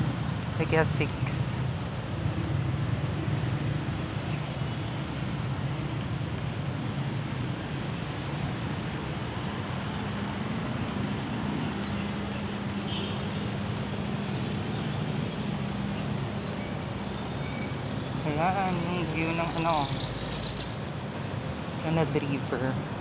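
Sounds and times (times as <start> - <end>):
traffic engines running: 0.0 - 23.0.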